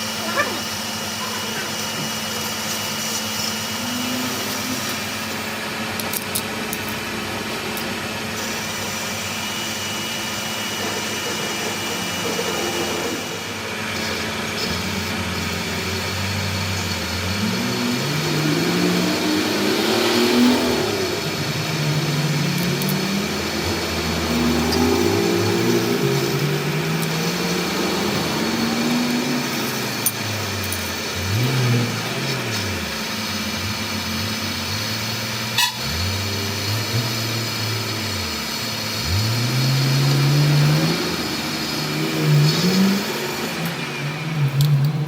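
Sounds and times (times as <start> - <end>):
machine motor humming and whining: 0.0 - 45.0.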